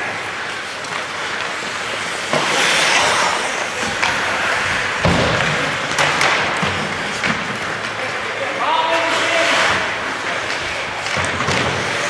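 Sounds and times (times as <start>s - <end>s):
hockey sticks knocking puck: 0.0s - 12.0s
skates scraping ice: 0.0s - 12.0s.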